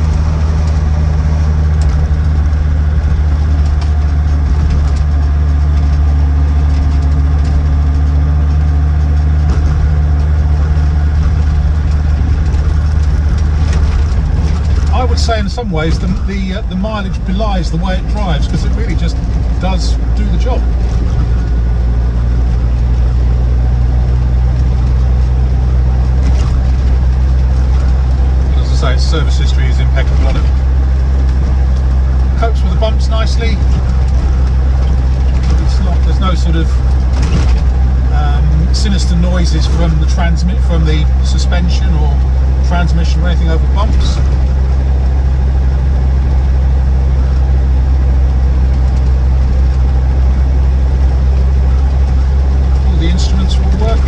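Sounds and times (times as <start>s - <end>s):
diesel engine droning in cabin: 0.0s - 54.0s
tyre and road noise: 0.0s - 54.0s.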